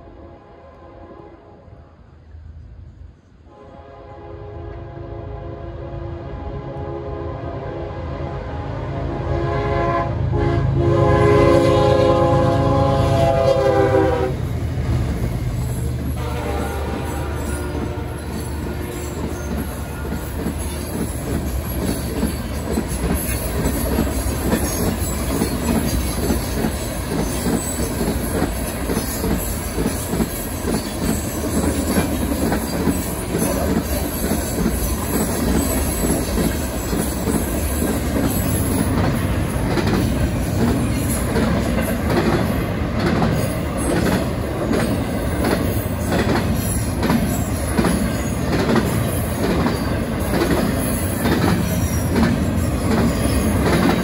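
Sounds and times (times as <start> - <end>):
train wheels rumbling on rails: 9.0 - 54.0.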